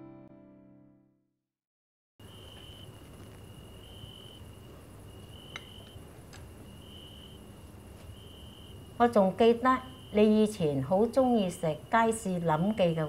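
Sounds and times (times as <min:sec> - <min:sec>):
crickets chirping: 0:02.2 - 0:13.0
low hum of night ambience: 0:02.2 - 0:13.0.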